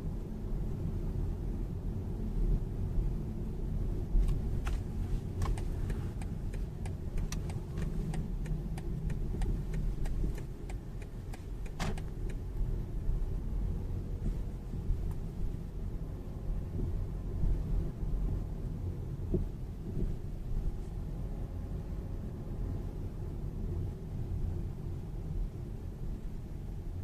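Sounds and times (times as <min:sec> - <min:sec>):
car road rumble: 0:00.0 - 0:27.0.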